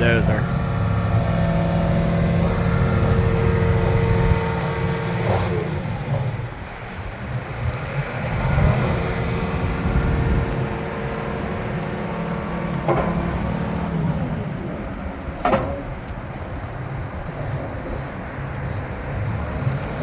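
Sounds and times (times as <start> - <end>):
steady whine: 0.0 - 18.0
diesel engine idling: 0.0 - 20.0.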